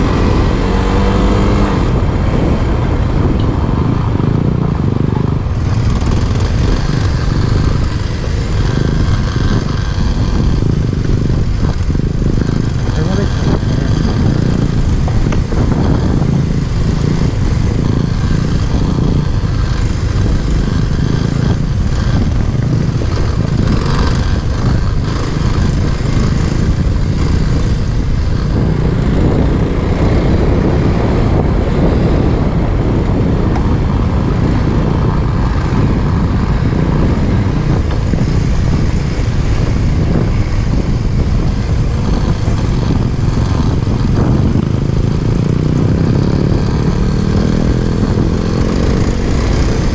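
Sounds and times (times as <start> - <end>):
motorcycle engine rumbling: 0.0 - 49.9.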